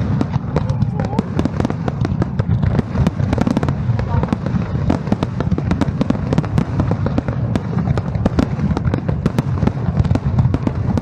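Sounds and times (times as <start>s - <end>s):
fireworks bangs and crackles: 0.0s - 11.0s
low rumble of bursting shells: 0.0s - 11.0s.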